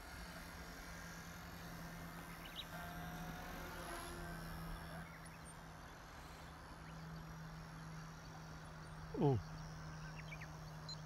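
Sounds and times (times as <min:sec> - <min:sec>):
toy helicopter rotor hum: 0:00.0 - 0:10.9.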